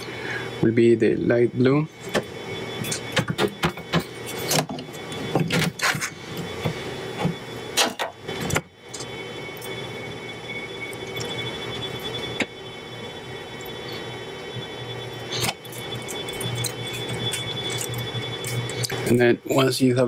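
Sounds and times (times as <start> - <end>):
steady hum with high whine: 0.0 - 20.0.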